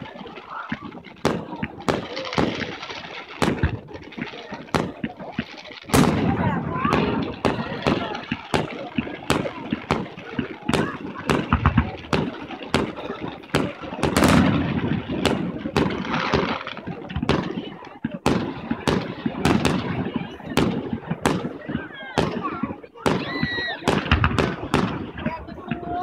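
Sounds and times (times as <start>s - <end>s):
fireworks shells bursting: 0.0s - 21.5s
fireworks crackling: 0.0s - 26.0s.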